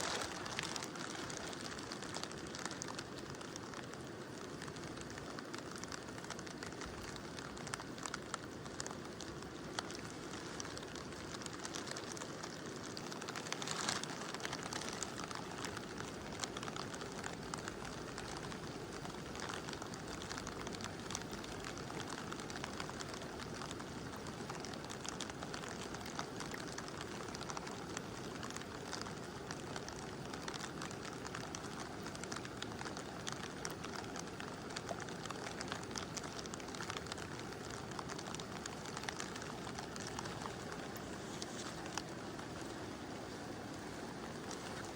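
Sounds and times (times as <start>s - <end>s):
mountain river rushing: 0.0s - 44.9s
raindrops ticking: 0.0s - 44.9s.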